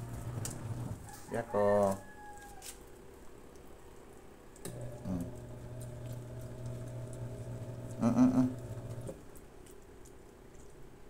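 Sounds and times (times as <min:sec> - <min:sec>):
puppy paws clicking on tiles: 0:01.8 - 0:11.0.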